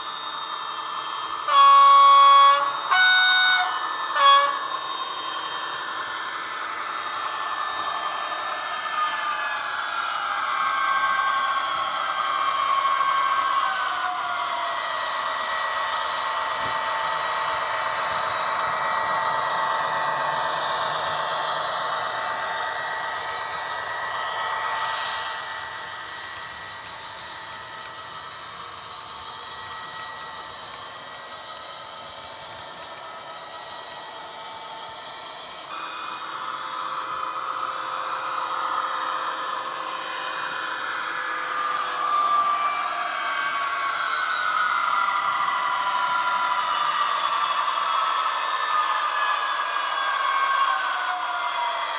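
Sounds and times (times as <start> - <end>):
model train diesel engine drone: 0.0 - 51.9.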